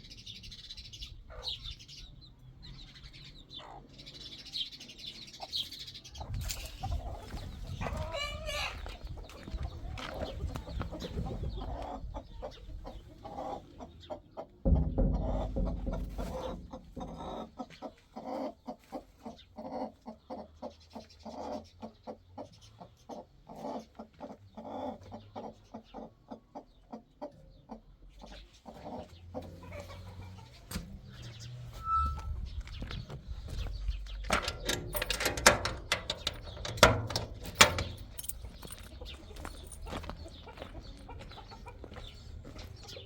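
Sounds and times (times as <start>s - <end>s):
chickens clucking: 0.1s - 43.0s.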